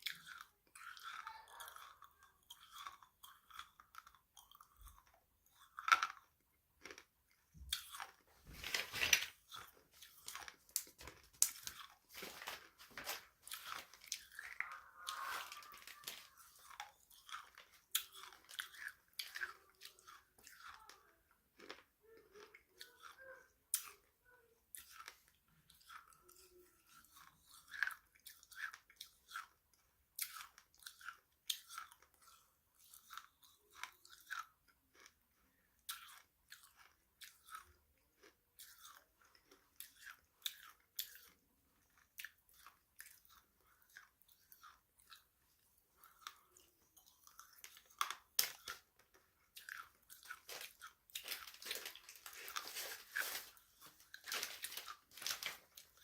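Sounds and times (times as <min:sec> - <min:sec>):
chewing crunchy snacks: 0:00.0 - 0:56.0.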